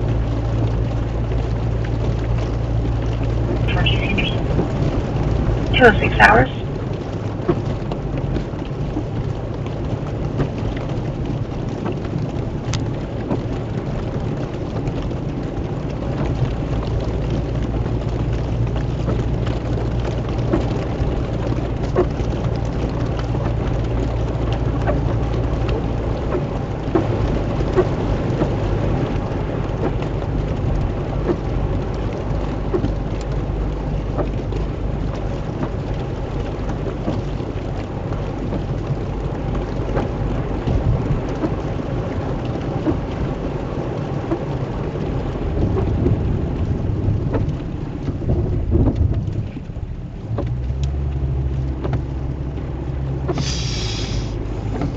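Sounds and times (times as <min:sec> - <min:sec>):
heavy rain: 0:00.0 - 0:54.9
raindrops ticking on surface: 0:00.0 - 0:54.9.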